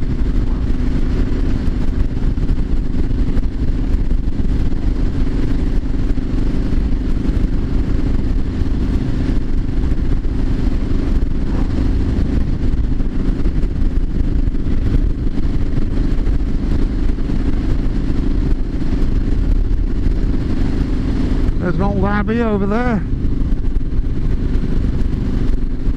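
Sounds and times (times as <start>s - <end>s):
motorcycle engine cruising: 0.0s - 25.9s
wind rumble on microphone: 0.0s - 25.9s.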